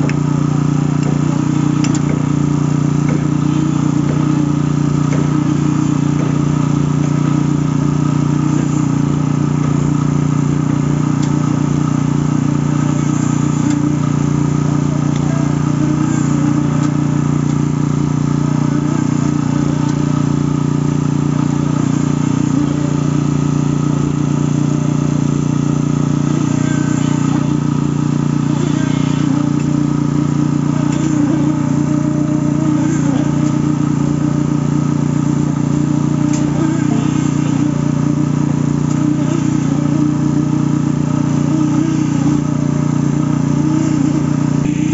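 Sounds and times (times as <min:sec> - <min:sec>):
concrete machinery engine drone: 0:00.0 - 0:44.9.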